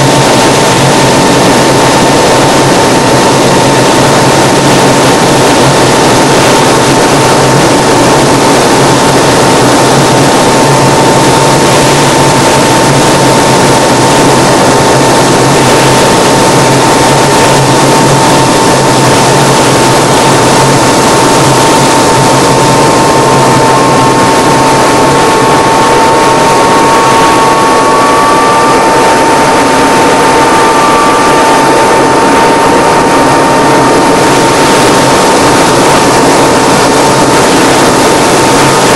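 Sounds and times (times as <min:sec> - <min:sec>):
constant engine whine: 0:00.0 - 0:38.9
higher wavering whine: 0:00.0 - 0:38.9
plane engine and propeller drone: 0:00.0 - 0:38.9.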